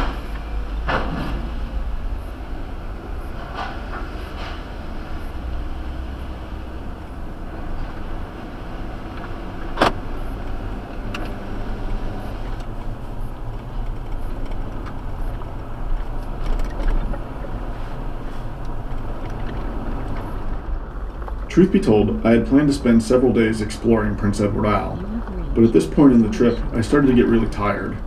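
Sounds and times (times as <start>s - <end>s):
road noise: 0.0s - 28.0s
vehicle engine rumble: 0.0s - 28.0s.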